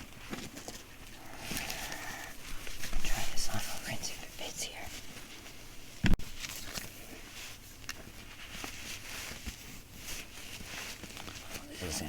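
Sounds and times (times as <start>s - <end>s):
clothing rustling: 0.0s - 12.0s.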